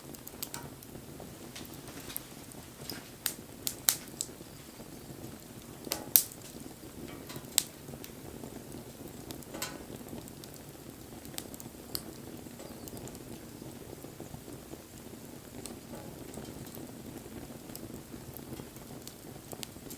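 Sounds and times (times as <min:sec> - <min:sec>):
bonfire flames hissing: 0:00.0 - 0:19.9
fire crackling and popping: 0:00.0 - 0:19.9.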